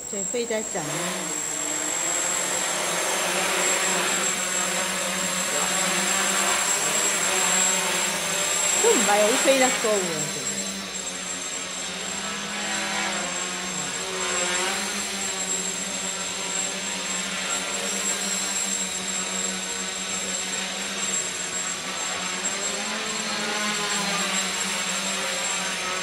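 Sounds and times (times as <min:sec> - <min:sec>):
quadcopter propellers buzzing: 0:00.0 - 0:26.0.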